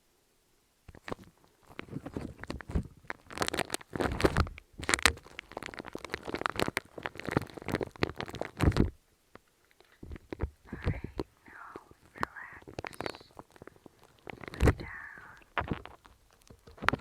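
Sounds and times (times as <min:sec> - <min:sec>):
close-up crackling and crunching: 0:00.9 - 0:17.0.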